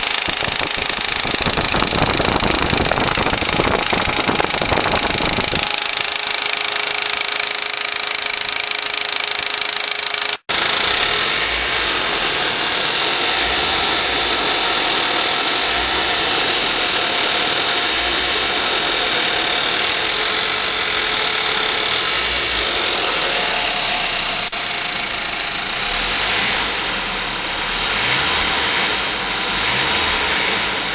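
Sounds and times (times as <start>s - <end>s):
car engine running: 0.0s - 30.9s
engine ticking: 0.0s - 30.9s.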